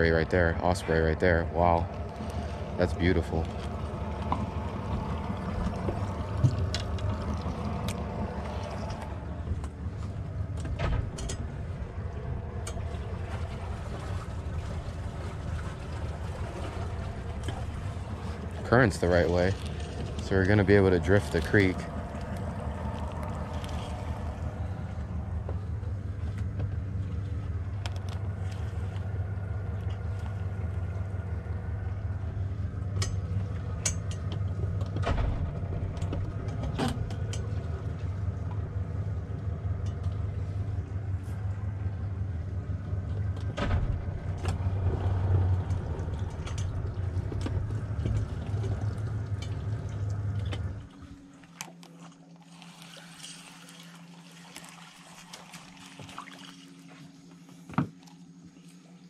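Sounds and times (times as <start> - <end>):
faint water trickling: 0.0 - 59.0
outboard motor idling: 0.0 - 59.0
knocks and clicks on hull: 1.8 - 40.4, 42.8 - 52.2.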